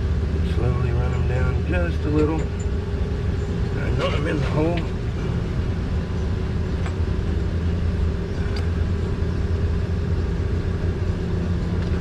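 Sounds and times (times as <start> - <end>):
low mechanical rumble with hum: 0.0 - 12.0.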